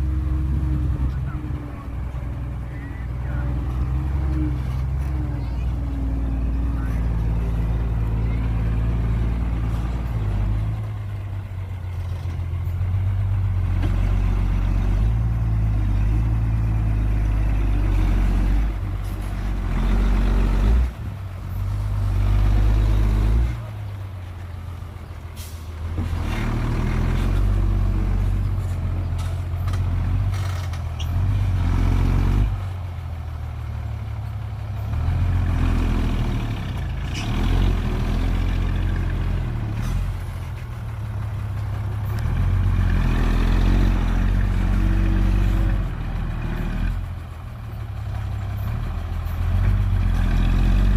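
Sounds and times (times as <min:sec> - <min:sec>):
diesel engines working: 0:00.0 - 0:50.9.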